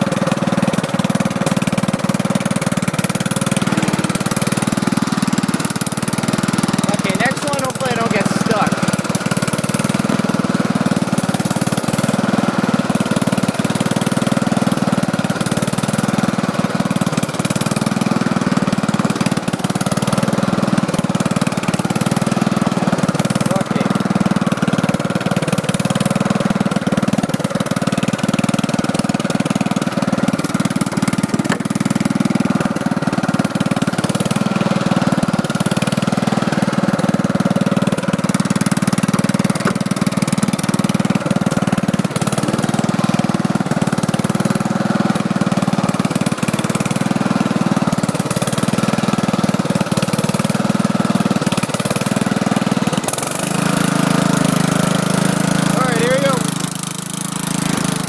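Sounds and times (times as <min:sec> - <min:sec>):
lawn tractor engine running: 0:00.0 - 0:58.0.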